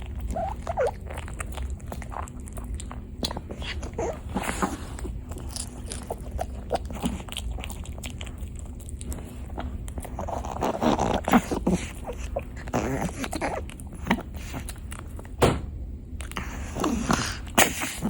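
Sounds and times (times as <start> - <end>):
pet chewing and crunching: 0.0 - 18.0.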